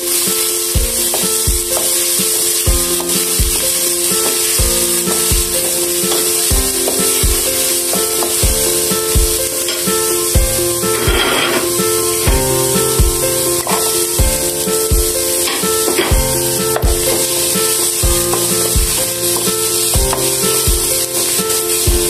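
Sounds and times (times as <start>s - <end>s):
background music with beat: 0.0s - 22.0s
garlic sizzling in oil: 0.0s - 22.0s.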